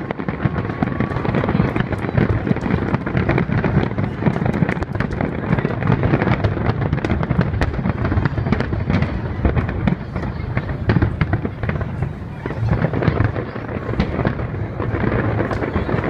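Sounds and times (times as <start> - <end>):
fireworks cracks and bangs: 0.0 - 16.0.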